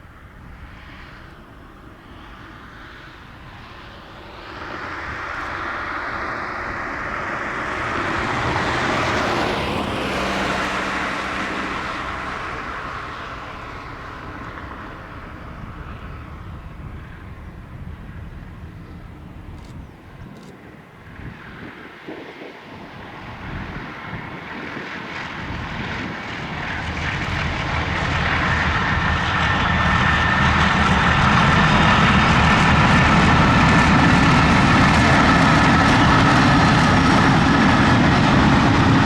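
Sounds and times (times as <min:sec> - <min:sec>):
diesel train passing: 0:00.0 - 0:39.0.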